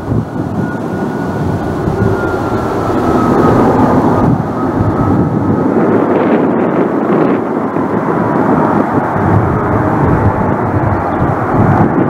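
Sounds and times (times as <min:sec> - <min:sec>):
jet rumble with high whine: 0:00.0 - 0:12.0.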